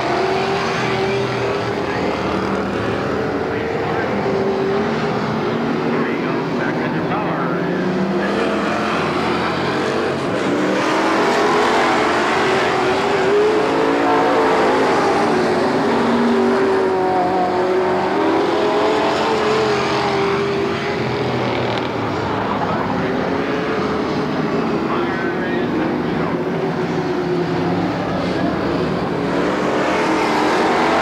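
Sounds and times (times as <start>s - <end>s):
stock car engines racing: 0.0s - 31.0s.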